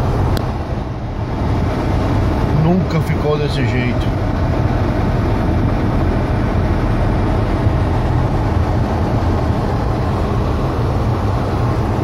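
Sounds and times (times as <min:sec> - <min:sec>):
car engine rumble: 0:00.0 - 0:12.0
tyres on slushy road: 0:00.0 - 0:12.0.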